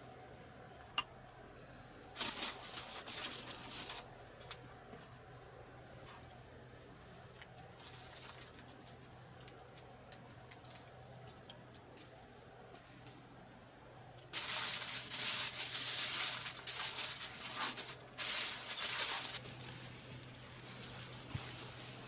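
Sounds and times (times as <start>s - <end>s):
crackly hissing noise: 1.9s - 22.0s.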